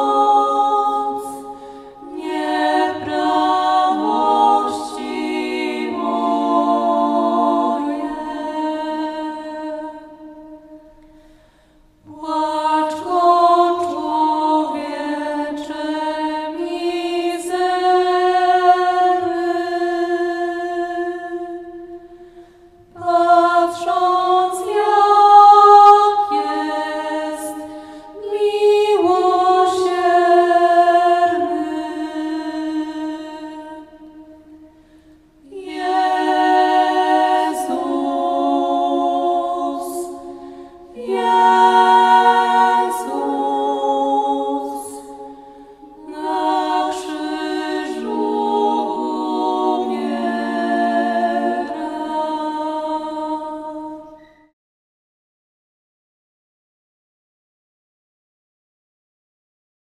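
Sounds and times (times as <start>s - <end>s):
choir singing in harmony: 0.0s - 54.5s.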